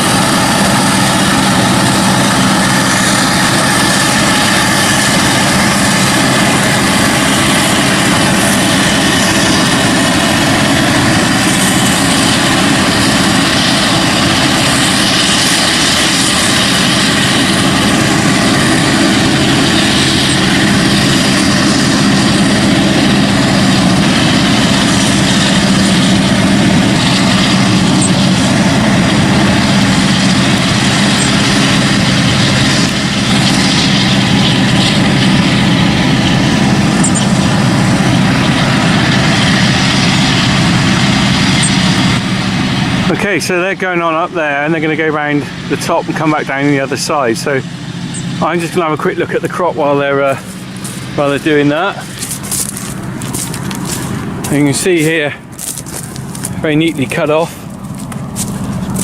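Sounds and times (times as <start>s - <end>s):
heavy diesel machinery drone: 0.0s - 59.0s.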